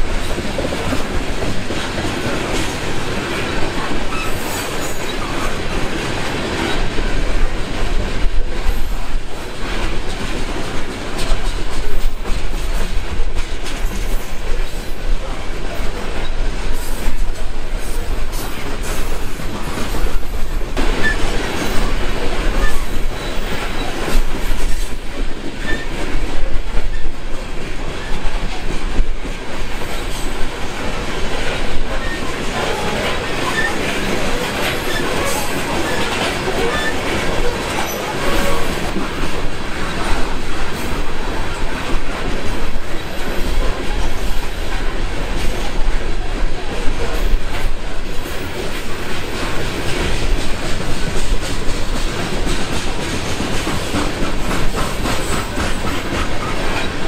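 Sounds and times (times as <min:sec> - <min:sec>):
train wheels clicking over rail joints: 0:00.0 - 0:57.0.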